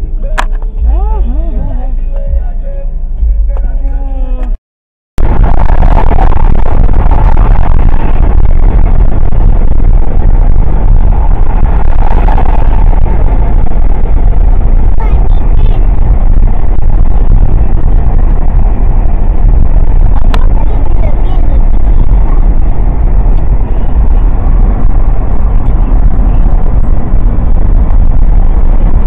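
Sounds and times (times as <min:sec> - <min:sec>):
road and wind noise in car: 0:00.0 - 0:04.6, 0:05.2 - 0:29.0.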